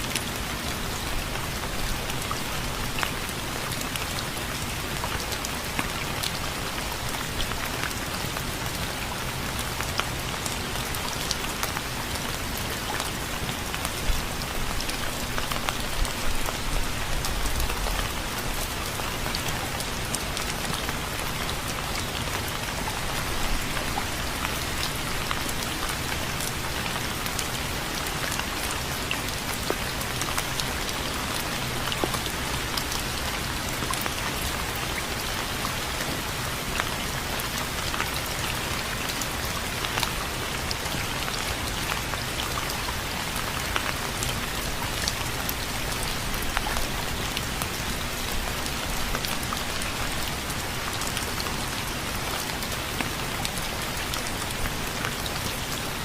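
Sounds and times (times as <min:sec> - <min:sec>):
rain drops ticking on a surface: 0:00.0 - 0:56.0.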